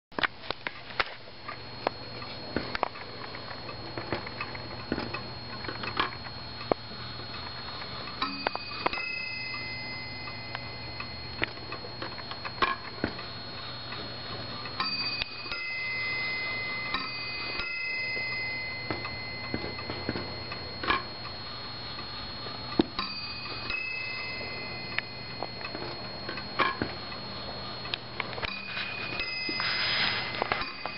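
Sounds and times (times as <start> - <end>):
clock striking: 3.7 - 30.9.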